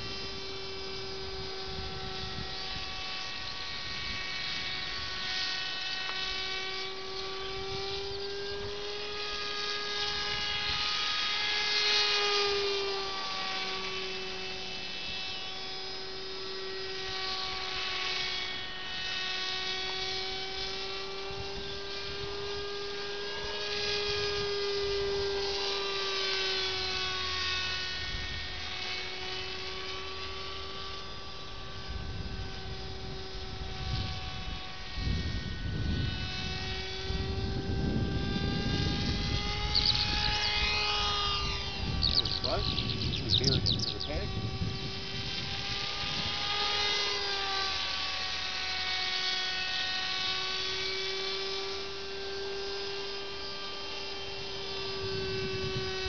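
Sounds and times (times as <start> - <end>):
model plane motor whining: 0.0 - 56.0.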